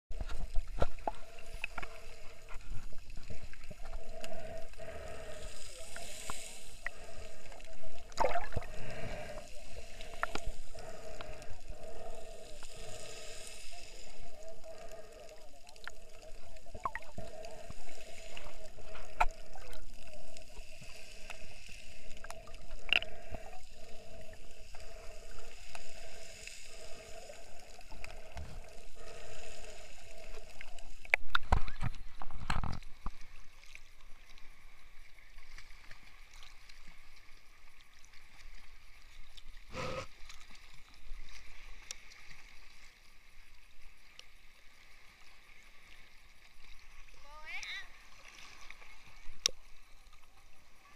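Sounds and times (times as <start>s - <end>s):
muffled underwater water noise: 0.1s - 50.9s.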